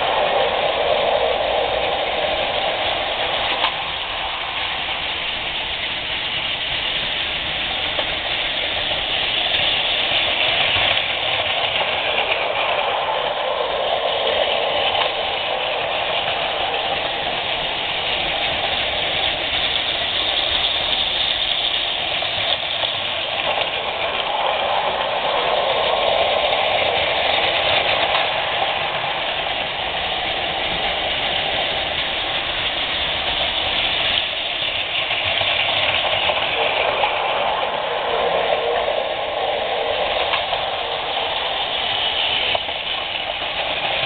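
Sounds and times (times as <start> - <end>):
toy trains motors whirring: 0.0 - 44.0.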